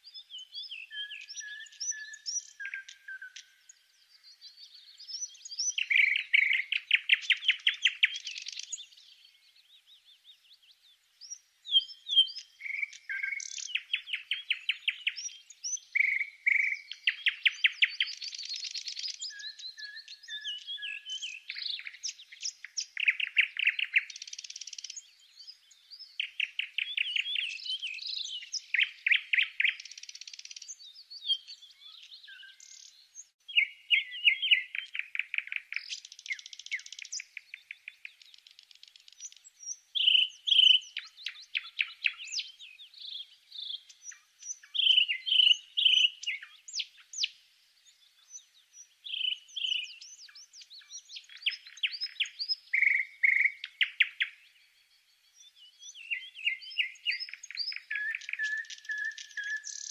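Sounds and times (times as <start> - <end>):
songbirds chirping and whistling: 0.0 - 59.9.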